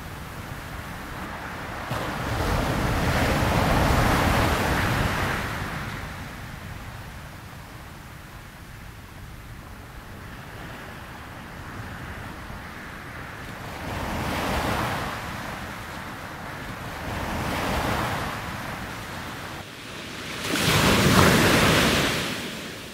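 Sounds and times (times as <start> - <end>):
surf-like rushing noise: 0.0 - 22.9.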